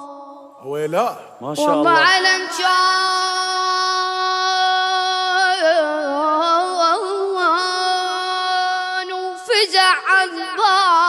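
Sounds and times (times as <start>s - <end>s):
person singing unaccompanied: 1.4s - 11.0s.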